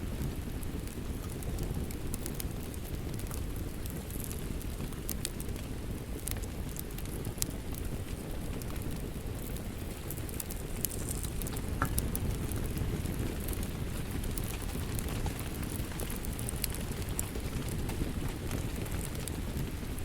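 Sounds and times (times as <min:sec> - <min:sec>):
fire pops: 0:00.0 - 0:20.0
wood fire crackling: 0:00.0 - 0:20.0.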